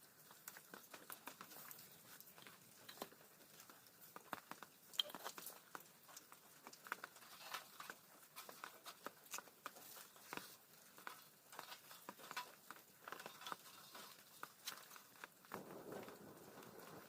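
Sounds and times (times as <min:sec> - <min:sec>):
faint campfire crackling: 0:00.0 - 0:17.0.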